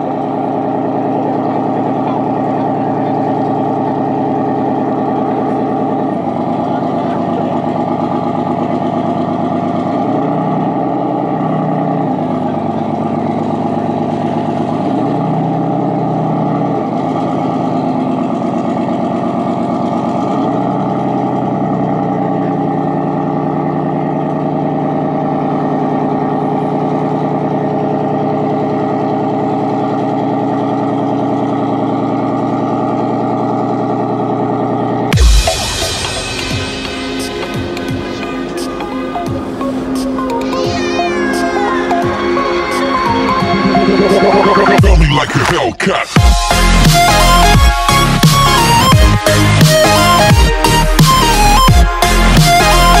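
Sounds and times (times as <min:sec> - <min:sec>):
boat engine idling: 0:00.0 - 0:53.0.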